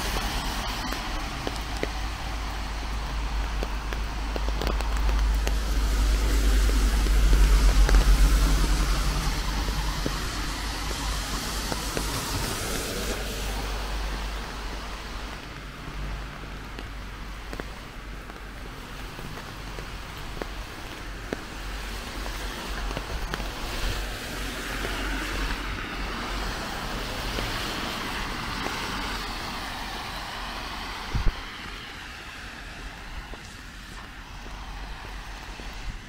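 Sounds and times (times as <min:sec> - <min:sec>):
vehicle tyre hiss on wet road: 0:00.0 - 0:36.0.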